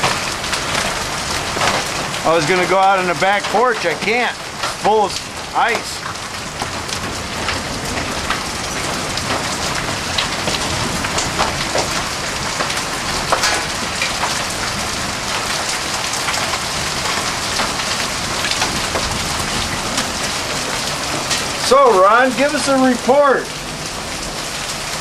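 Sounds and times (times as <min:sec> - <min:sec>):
hailstones striking: 0:00.0 - 0:25.0
heavy rain hissing: 0:00.0 - 0:25.0.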